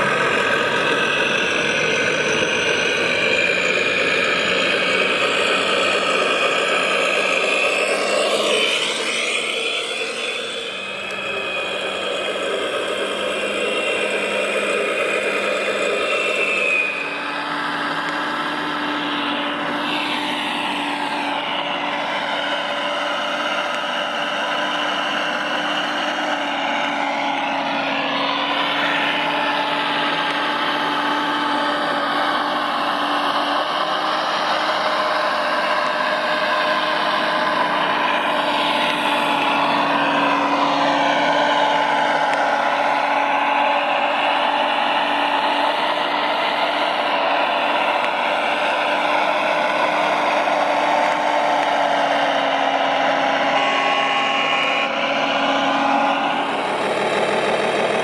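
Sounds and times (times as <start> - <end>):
electric motors whining: 0.0 - 58.0.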